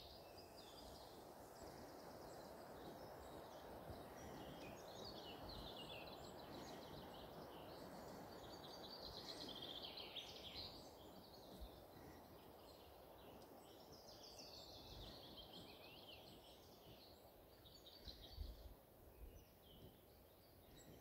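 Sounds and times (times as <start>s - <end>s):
birdsong trills and chirps: 0.0s - 21.0s
low background hiss: 0.0s - 21.0s.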